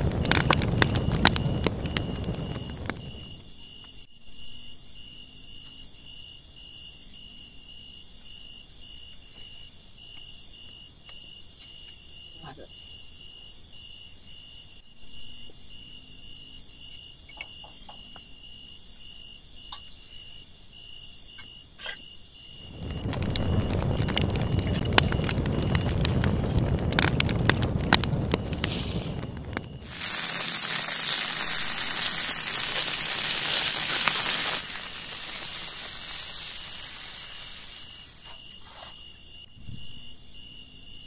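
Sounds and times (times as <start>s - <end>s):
cricket-like chirp: 0.0s - 41.0s.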